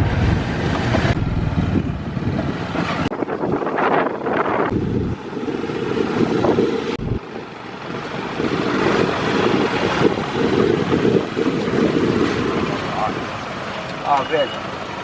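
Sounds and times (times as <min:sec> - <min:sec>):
wind rushing over microphone: 0:00.0 - 0:13.9
moving vehicle noise: 0:00.0 - 0:15.0.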